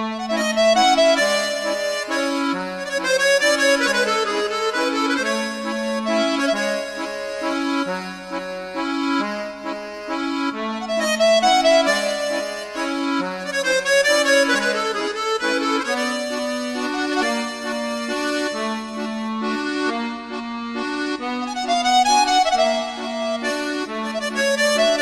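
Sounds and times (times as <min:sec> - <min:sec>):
instrumental music with stepping bass: 0:00.0 - 0:25.0.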